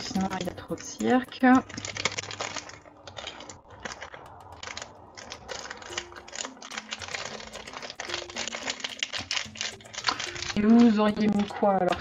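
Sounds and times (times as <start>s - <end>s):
light clicks and ticks: 0.0s - 12.0s
plastic packet crinkling: 1.3s - 12.0s.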